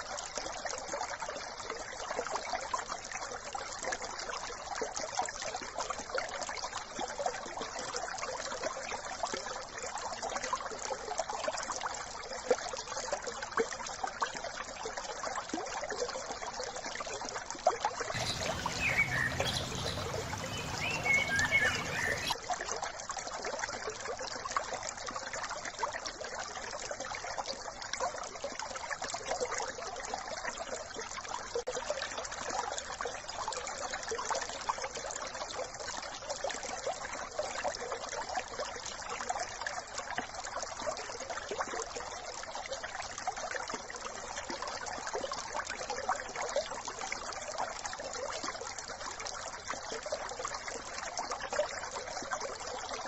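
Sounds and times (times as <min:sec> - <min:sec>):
brook babbling: 0:00.0 - 0:53.0.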